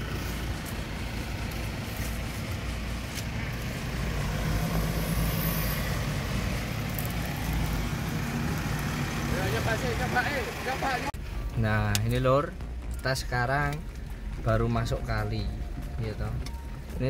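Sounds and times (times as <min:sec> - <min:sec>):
car engine running: 0:00.0 - 0:17.0
tyre and road rumble: 0:00.0 - 0:17.0.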